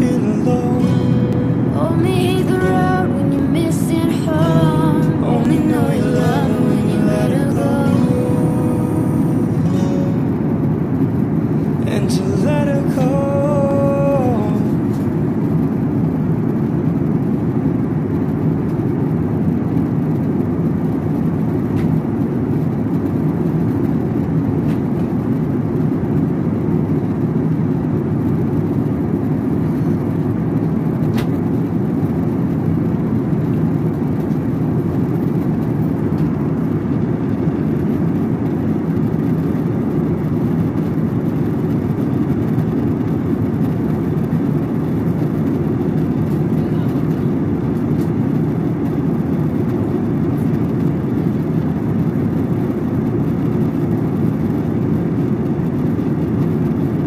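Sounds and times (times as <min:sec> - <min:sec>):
airliner cabin engine rush: 0:00.0 - 0:57.0.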